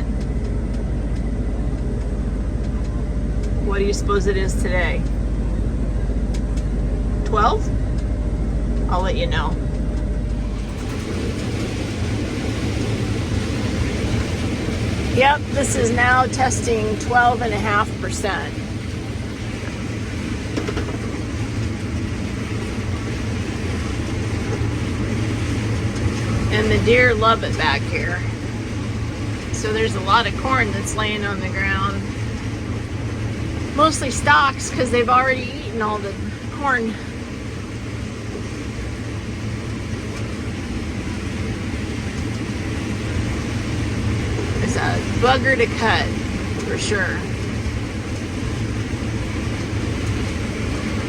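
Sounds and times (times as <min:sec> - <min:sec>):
combine harvester running: 0:00.0 - 0:51.0.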